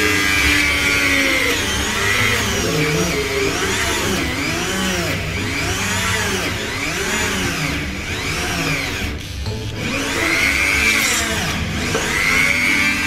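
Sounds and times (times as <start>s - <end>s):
mini grinder drilling into wood: 0.0s - 13.0s.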